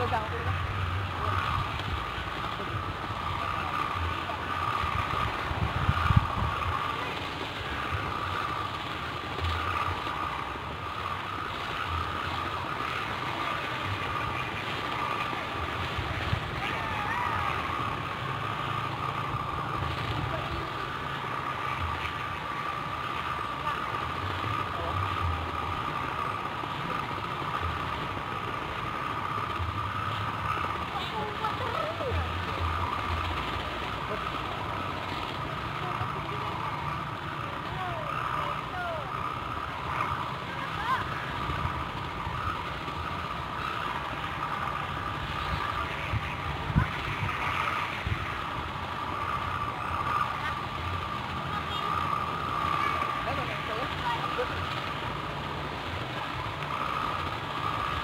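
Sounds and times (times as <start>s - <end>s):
steady high-pitched hum: 0.0s - 58.0s
wind buffeting microphone: 0.0s - 58.0s.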